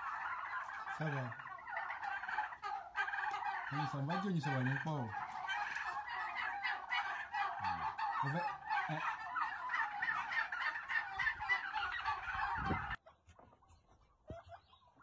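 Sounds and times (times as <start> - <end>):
turkeys gobbling: 0.0 - 15.0.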